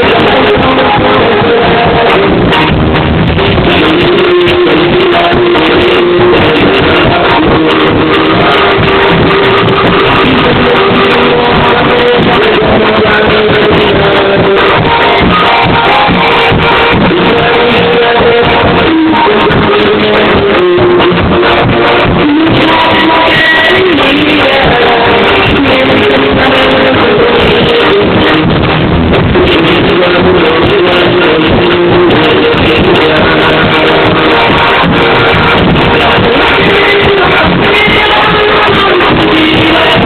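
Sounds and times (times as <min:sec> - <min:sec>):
loud live band music: 0:00.0 - 0:40.0.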